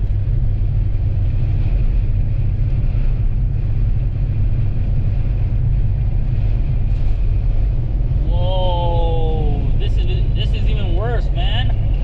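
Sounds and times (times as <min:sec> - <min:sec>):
strong wind noise: 0:00.0 - 0:12.0
vehicle driving rumble: 0:00.0 - 0:12.0.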